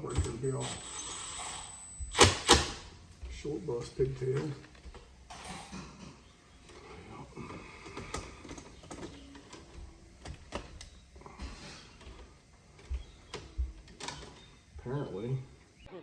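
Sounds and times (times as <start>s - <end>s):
hand tools clicking and scraping: 0.0s - 15.8s.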